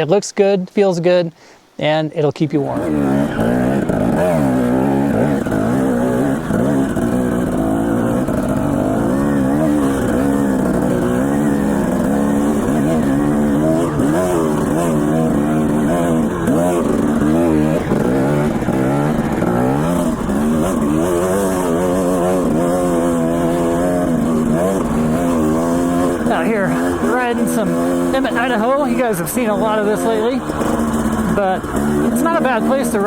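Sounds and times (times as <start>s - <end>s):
dirt bike engine revving: 2.6s - 33.0s.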